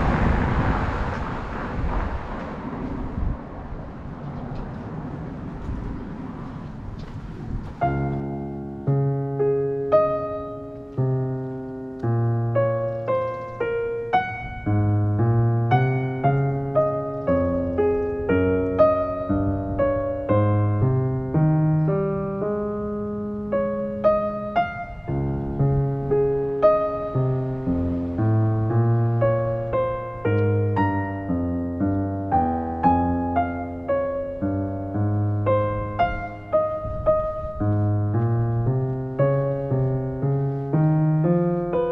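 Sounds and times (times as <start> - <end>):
solo piano music: 6.2 - 41.9.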